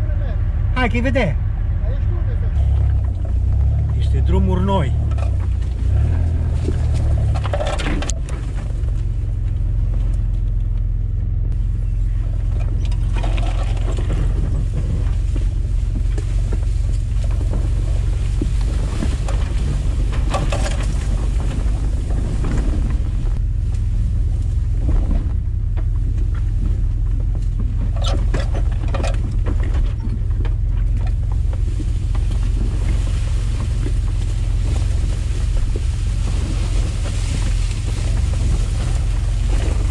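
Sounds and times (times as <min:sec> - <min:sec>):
vehicle engine rumble: 0:00.0 - 0:39.9
wind rumble on microphone: 0:00.0 - 0:39.9.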